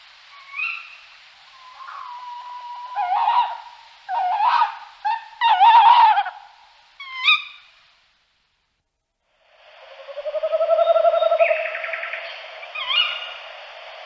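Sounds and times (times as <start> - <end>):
owl calling: 0.3 - 7.8, 9.8 - 13.7.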